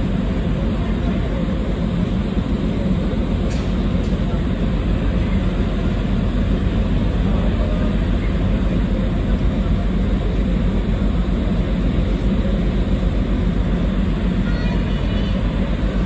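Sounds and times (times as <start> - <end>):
ship engine rumble: 0.0 - 16.0.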